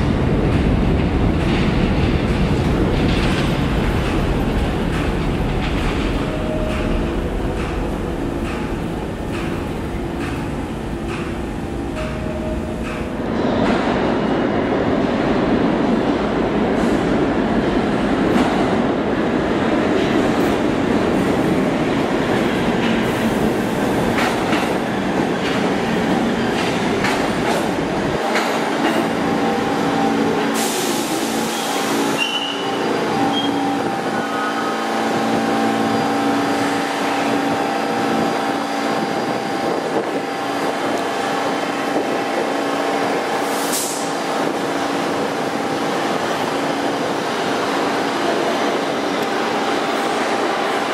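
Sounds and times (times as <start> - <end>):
subway train rumbling: 0.0 - 50.9.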